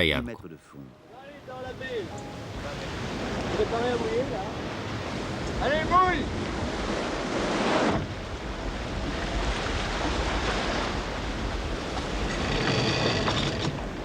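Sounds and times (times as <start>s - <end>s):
breaking waves: 1.0s - 14.0s
wind buffeting microphone: 1.9s - 14.0s.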